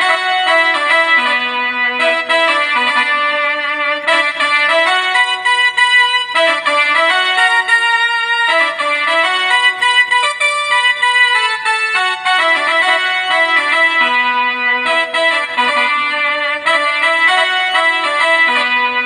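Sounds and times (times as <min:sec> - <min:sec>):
electronic keyboard melody with chords: 0:00.0 - 0:19.0.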